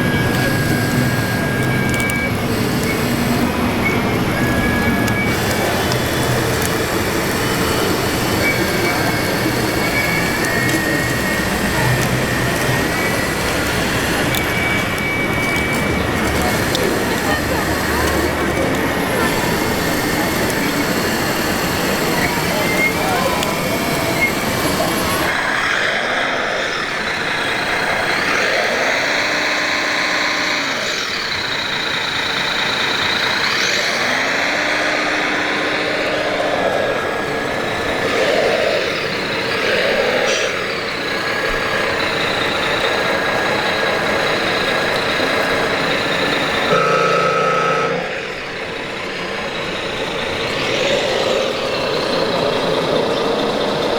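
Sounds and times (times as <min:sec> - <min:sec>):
electric drives whining: 0:00.0 - 0:53.9
hydraulic pumps working: 0:00.0 - 0:53.9.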